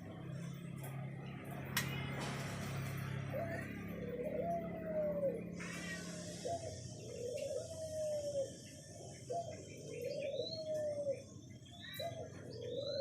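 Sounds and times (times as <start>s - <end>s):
dove cooing: 2.0s - 13.0s.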